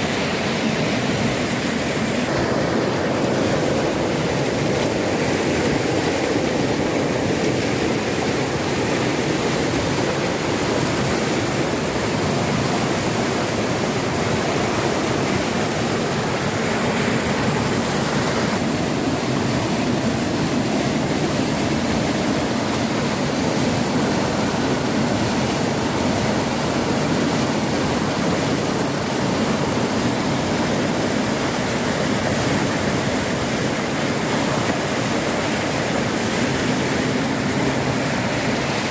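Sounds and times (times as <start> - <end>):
floodwater rushing: 0.0 - 38.9.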